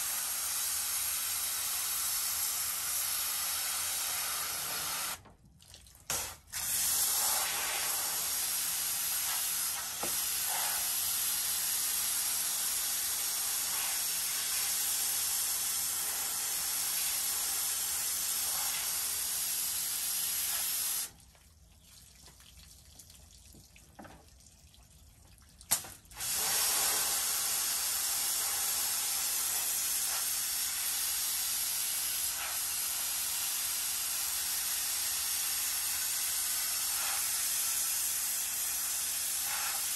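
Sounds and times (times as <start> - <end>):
pressure washer spraying water: 0.0 - 5.2, 6.1 - 21.1, 25.7 - 39.9.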